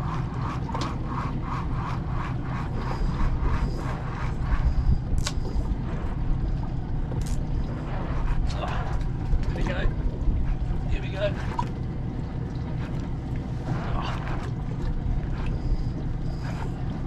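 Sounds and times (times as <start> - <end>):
low rumble of wind and water: 0.0 - 17.0.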